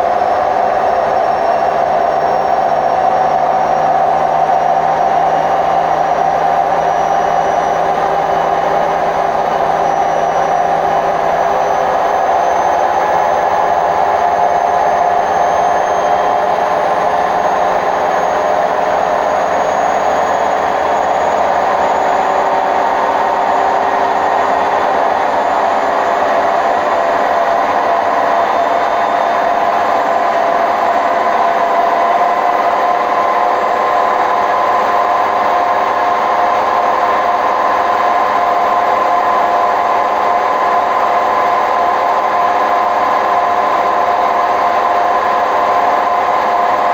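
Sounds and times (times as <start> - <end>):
washing machine spinning: 0.0 - 46.9.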